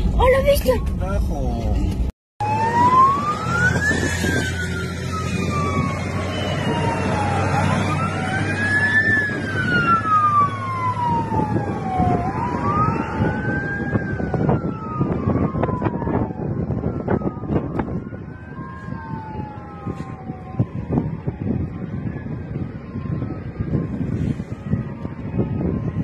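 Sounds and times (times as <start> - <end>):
fire truck sirens wailing: 2.4 - 26.0.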